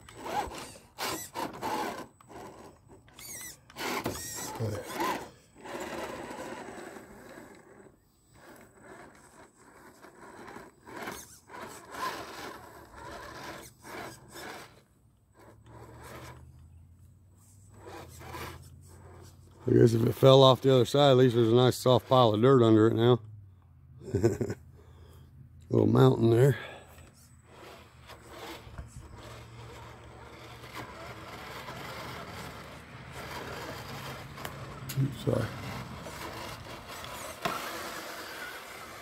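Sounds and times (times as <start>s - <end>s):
electric motor whining: 0.0s - 16.8s, 17.4s - 22.2s, 26.2s - 39.0s
tires scraping on wood: 0.0s - 23.3s, 24.0s - 39.0s.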